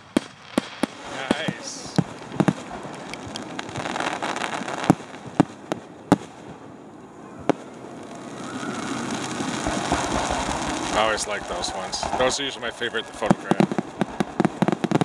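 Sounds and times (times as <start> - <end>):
continuous fireworks rumble: 0.0 - 15.0
fireworks bangs: 0.0 - 15.0.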